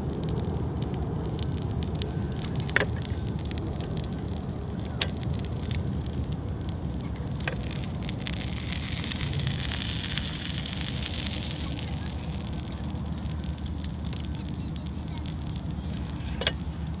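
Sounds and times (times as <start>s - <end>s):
fire popping: 0.0s - 17.0s
wood fire rumbling: 0.0s - 17.0s.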